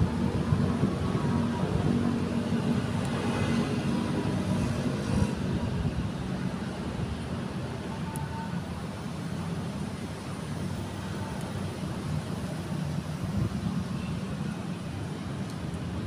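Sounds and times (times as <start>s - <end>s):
low traffic rumble: 0.0s - 16.0s.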